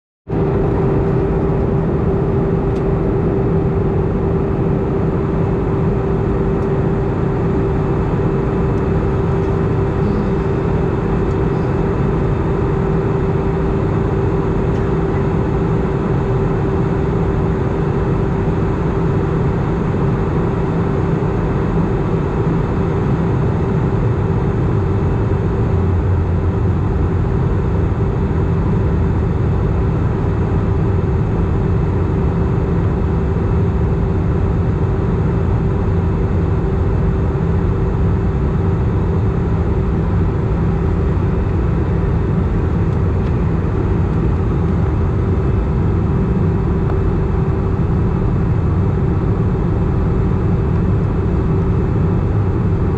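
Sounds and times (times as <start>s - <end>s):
jet engine drone: 0.3s - 52.9s.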